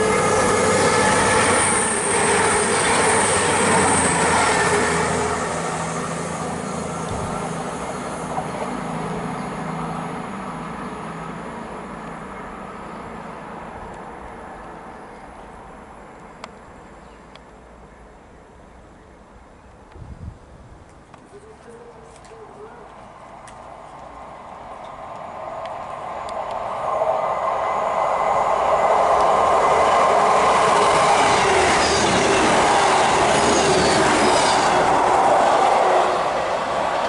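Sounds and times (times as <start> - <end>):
diesel train passing: 0.0 - 19.9, 22.6 - 37.0.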